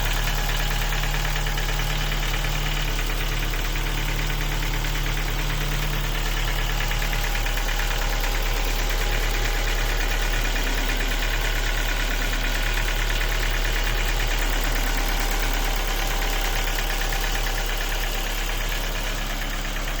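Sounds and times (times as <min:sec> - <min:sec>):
engine idling with rapid knock: 0:00.0 - 0:20.0.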